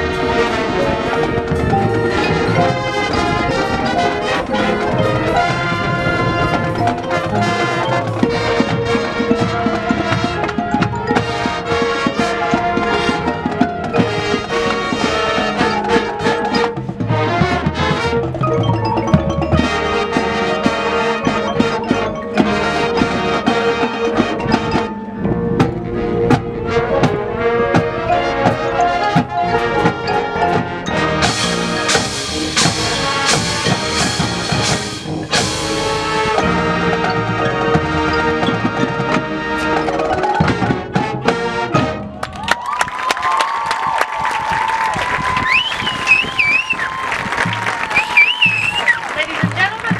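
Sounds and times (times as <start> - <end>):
brass: 0.0 - 42.3
mallet percussion: 0.0 - 43.2, 46.6 - 49.9
drums: 0.0 - 49.9.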